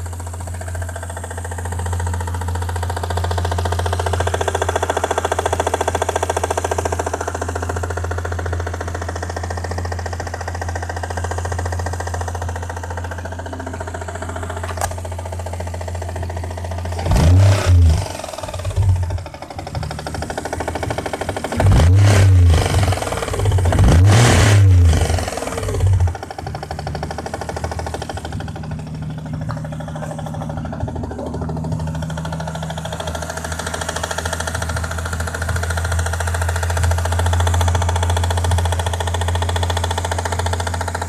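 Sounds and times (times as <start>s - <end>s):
car engine idling: 0.0s - 41.0s
engine knock ticking: 0.0s - 41.0s.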